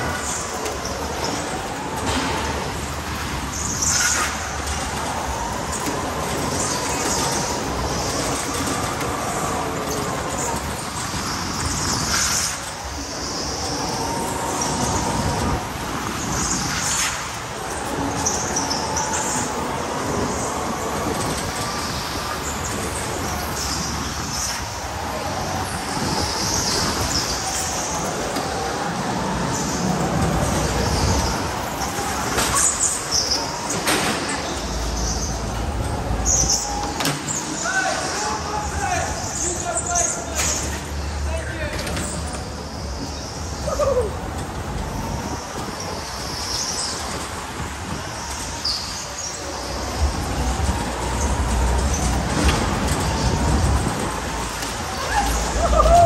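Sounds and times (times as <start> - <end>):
rolling and wind noise: 0.0 - 56.0.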